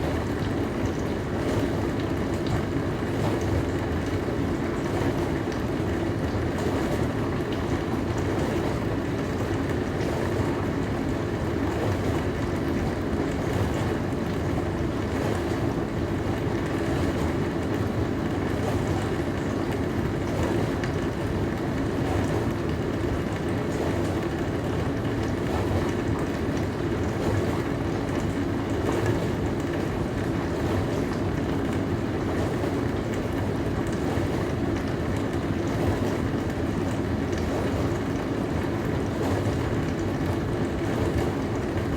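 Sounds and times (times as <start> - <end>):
dishwasher running: 0.0 - 41.9.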